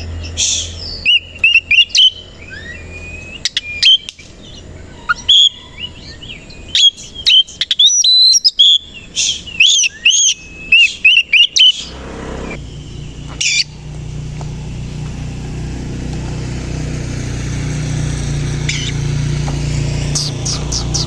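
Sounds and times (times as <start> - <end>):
low droning hum: 0.0 - 7.6, 10.3 - 21.0
bird calls and chirps: 0.0 - 21.0.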